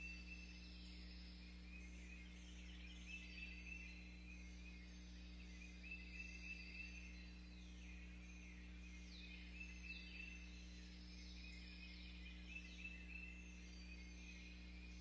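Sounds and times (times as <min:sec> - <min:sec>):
faint birdsong: 0:00.0 - 0:15.0
low electrical hum: 0:00.0 - 0:15.0.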